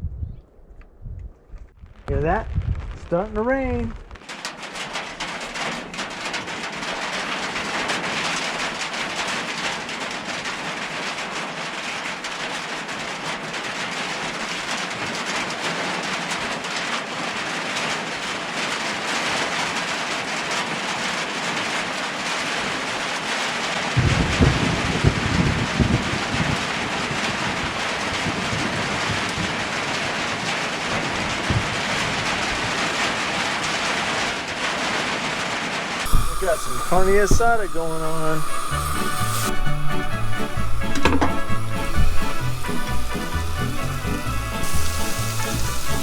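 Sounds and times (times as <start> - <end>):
rain falling steadily: 3.1 - 46.0.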